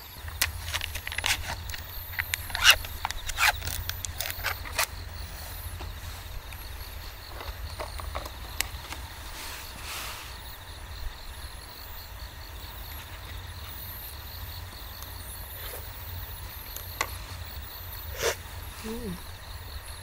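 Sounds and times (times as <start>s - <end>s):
low constant rumble: 0.0s - 20.0s
pulsing insect chirps: 0.0s - 20.0s.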